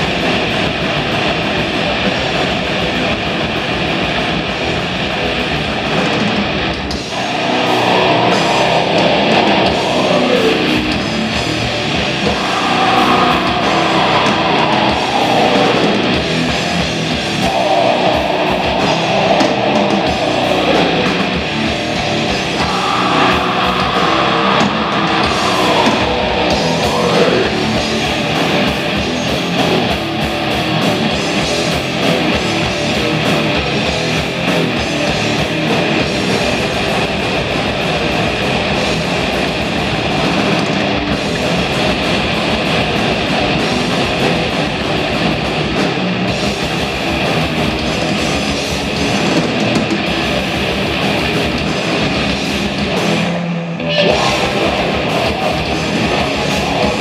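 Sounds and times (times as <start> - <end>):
live band with electric guitars: 0.0 - 57.0.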